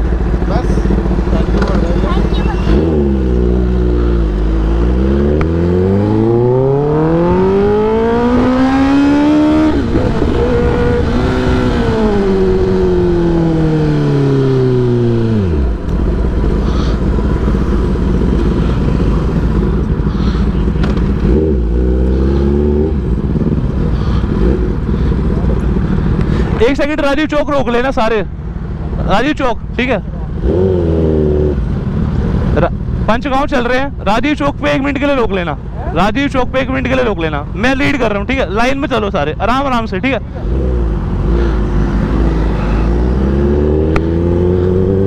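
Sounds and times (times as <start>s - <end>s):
motorcycle engine revving: 0.0s - 27.0s, 29.8s - 33.9s, 34.6s - 45.0s.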